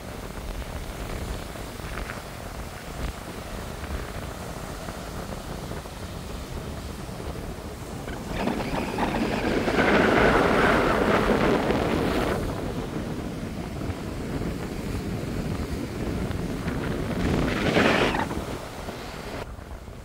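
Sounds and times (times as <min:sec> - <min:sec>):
wind on microphone: 0:00.0 - 0:20.0
ocean surf breaking: 0:03.0 - 0:20.0.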